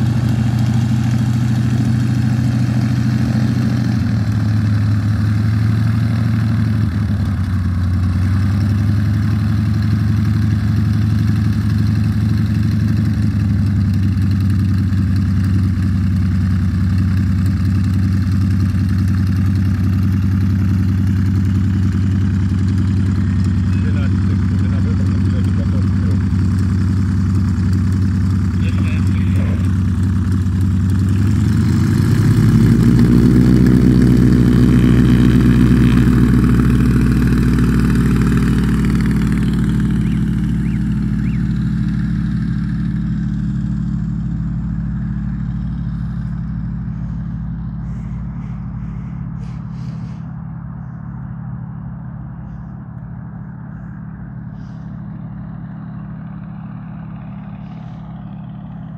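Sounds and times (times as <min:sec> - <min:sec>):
propeller plane engine droning: 0:00.0 - 0:58.9.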